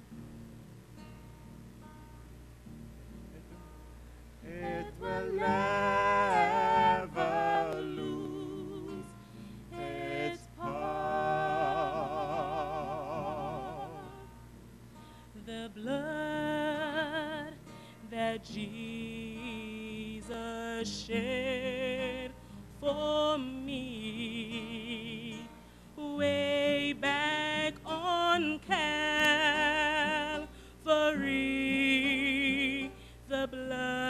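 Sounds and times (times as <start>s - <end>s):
classical guitar playing: 0.0s - 34.0s
woman singing a hymn: 4.4s - 14.4s, 15.3s - 34.0s.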